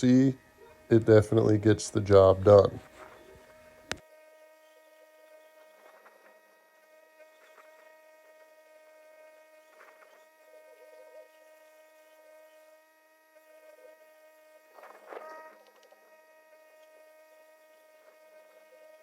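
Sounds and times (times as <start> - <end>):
faint electrical hum: 0.0 - 19.0
faint rustles: 0.0 - 19.0.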